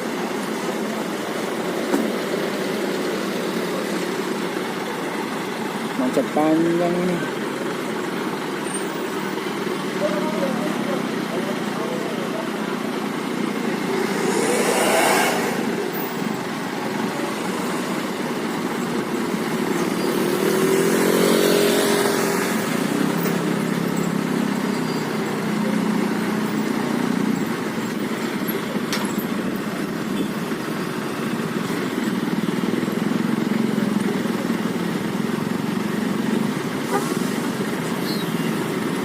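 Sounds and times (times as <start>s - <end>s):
traffic engines passing: 0.0s - 39.0s.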